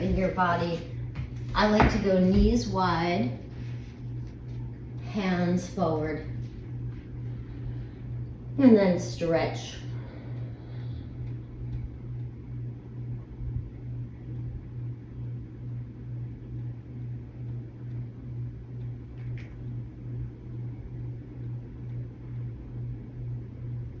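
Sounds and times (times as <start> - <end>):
pulsing mechanical hum: 0.0 - 24.0.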